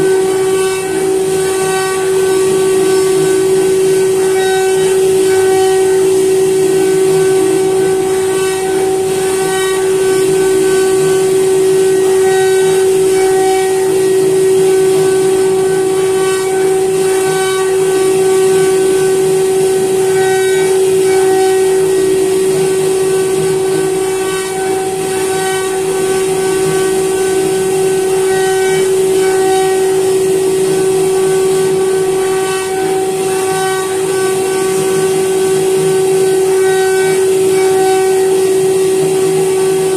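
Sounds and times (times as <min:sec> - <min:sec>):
hiss of wood cutting: 0:00.0 - 0:39.9
router spindle whine: 0:00.0 - 0:39.9.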